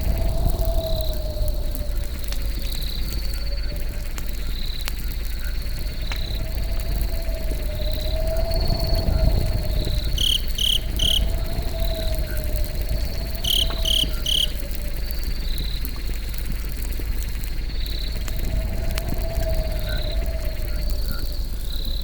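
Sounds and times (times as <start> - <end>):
crickets chirping: 0.0 - 22.0
steady low rumble: 0.0 - 22.0.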